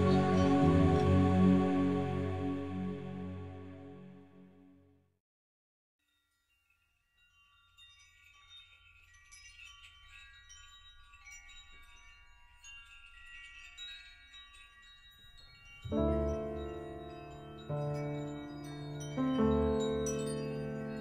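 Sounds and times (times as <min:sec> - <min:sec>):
shimmering chime music: 0:00.0 - 0:04.3, 0:06.1 - 0:21.0.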